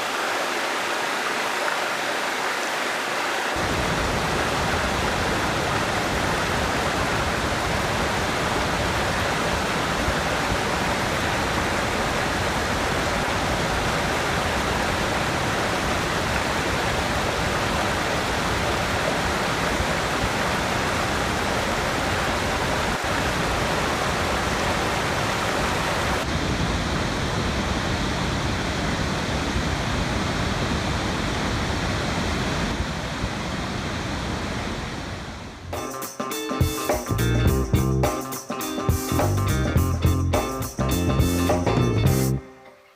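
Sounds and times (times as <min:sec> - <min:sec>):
rushing water: 0:00.0 - 0:35.7.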